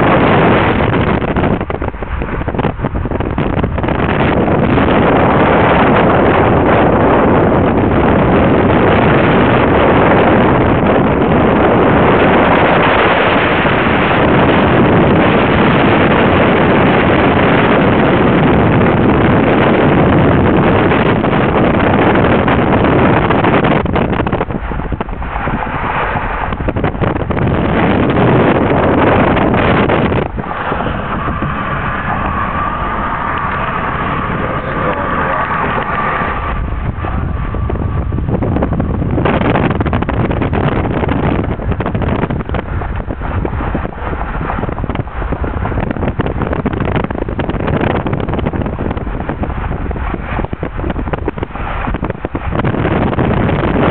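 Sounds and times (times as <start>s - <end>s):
car road noise: 0.0s - 53.9s
wind noise on microphone: 0.0s - 53.9s.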